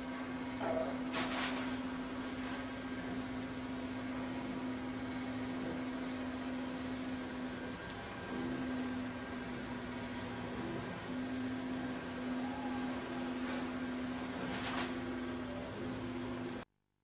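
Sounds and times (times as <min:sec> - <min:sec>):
low electrical hum: 0:00.0 - 0:16.7.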